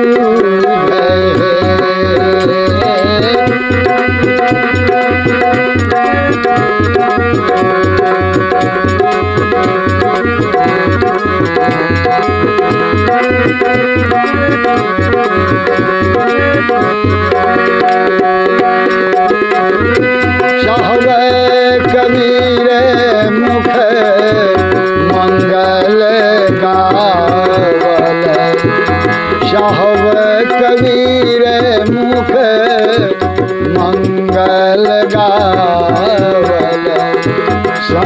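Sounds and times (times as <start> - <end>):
melody of held notes: 0.0 - 34.3
hand drum beating: 0.0 - 38.0.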